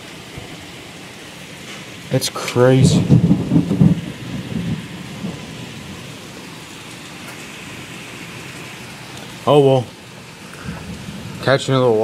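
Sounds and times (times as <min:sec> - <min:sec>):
heavy rain and hail hissing: 0:00.0 - 0:12.0.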